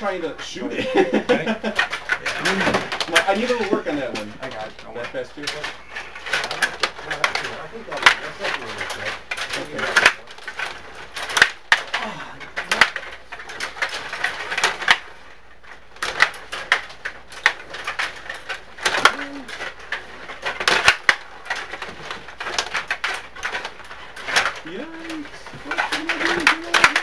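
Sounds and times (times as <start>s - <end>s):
table hockey clacking and knocking: 0.8s - 27.0s.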